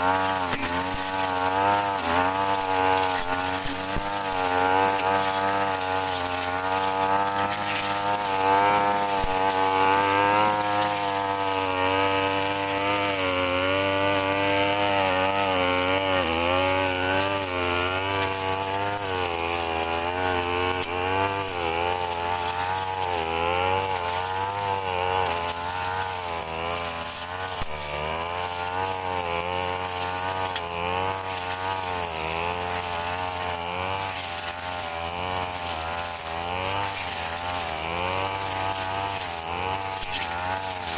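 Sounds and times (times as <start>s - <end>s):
brush cutter engine cutting grass: 0.0s - 40.9s.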